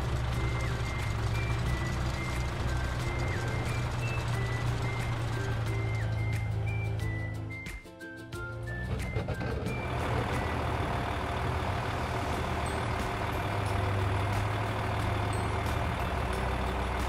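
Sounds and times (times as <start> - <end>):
tractor engine humming: 0.0 - 17.0.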